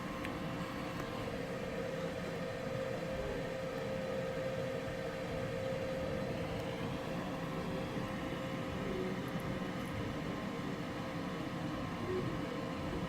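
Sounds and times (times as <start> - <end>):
extraction fan humming: 0.0 - 13.0.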